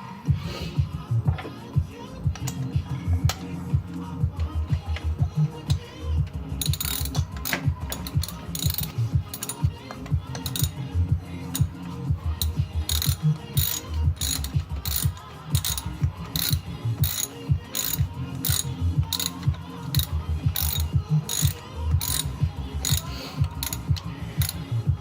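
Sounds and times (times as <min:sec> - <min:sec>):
ratchet wrench clicking: 0:02.2 - 0:25.0.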